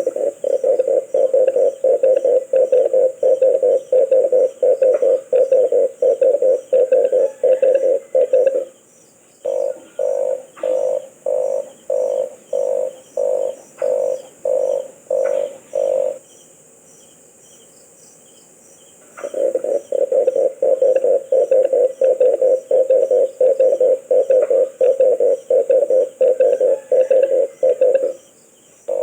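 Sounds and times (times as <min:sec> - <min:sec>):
dove croaking coos: 0:00.0 - 0:16.4, 0:19.0 - 0:29.0.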